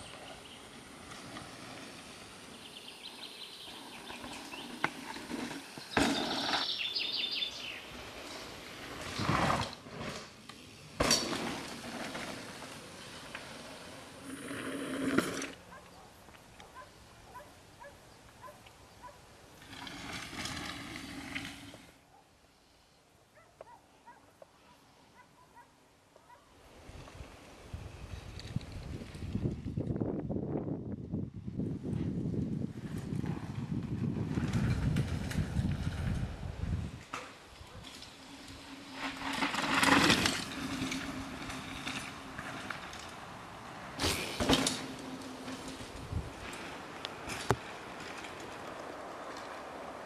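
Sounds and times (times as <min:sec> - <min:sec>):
bike tyres on loose dirt: 0:00.0 - 0:22.9, 0:26.5 - 0:50.0.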